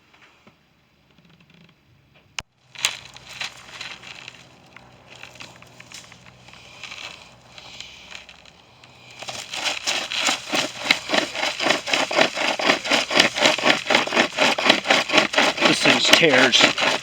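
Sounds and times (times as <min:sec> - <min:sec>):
pocket chainsaw sawing wood: 0:02.7 - 0:17.0.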